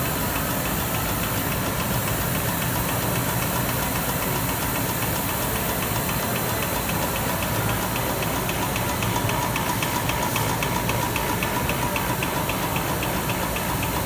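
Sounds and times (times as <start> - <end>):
mechanical hum: 0.0 - 14.0
yarn winding machine ticking: 0.0 - 14.0.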